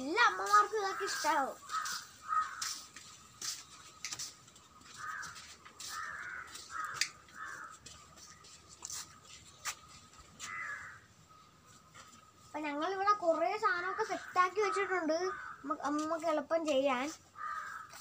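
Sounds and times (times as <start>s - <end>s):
harsh bird calls: 0.0s - 15.9s, 17.3s - 18.0s.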